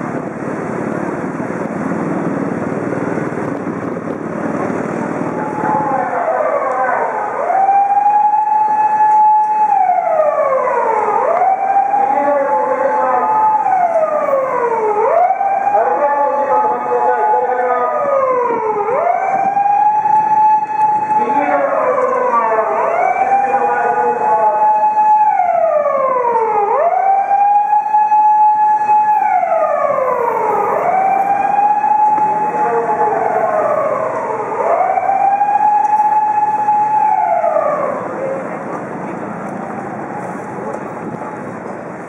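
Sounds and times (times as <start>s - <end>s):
emergency siren wailing: 0.0s - 42.0s
street traffic: 0.0s - 42.0s.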